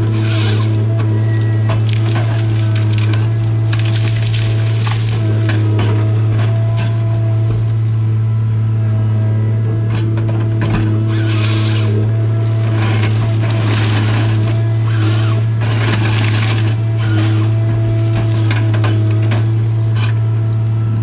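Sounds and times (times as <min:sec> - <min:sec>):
harvester engine and hydraulics droning: 0:00.0 - 0:21.0
wood cracking and snapping: 0:00.1 - 0:08.0, 0:11.1 - 0:20.1.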